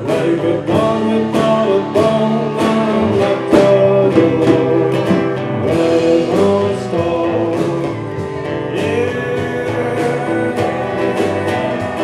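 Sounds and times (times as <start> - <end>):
acoustic guitar strumming: 0.0 - 12.0
drum beat: 0.0 - 12.0
electric guitar: 0.0 - 12.0.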